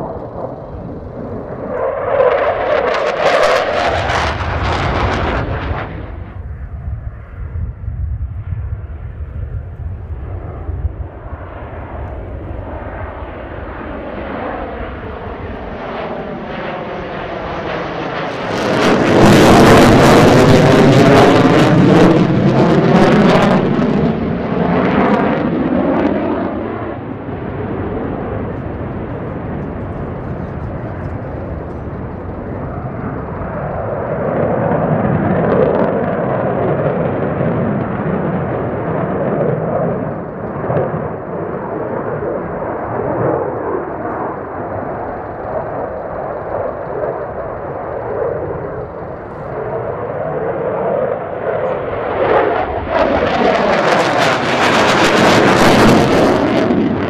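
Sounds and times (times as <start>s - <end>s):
fighter jet roar: 0.0s - 57.0s.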